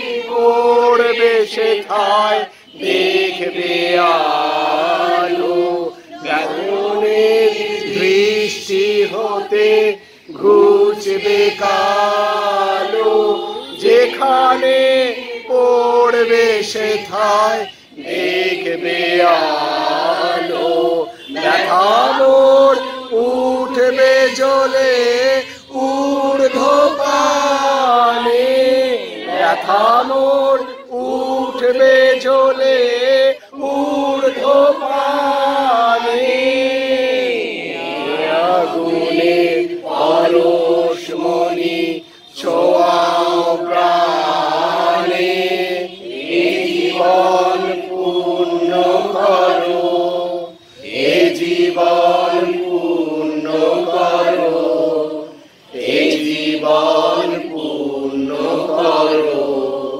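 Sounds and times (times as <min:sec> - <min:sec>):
crowd singing in unison: 0:00.0 - 0:59.9.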